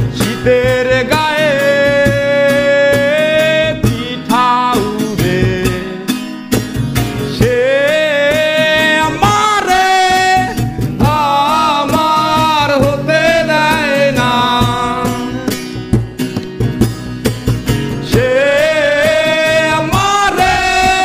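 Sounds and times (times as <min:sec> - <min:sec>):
man singing with vibrato: 0:00.0 - 0:06.4, 0:07.2 - 0:15.8, 0:17.9 - 0:21.0
strummed acoustic guitar: 0:00.0 - 0:21.0.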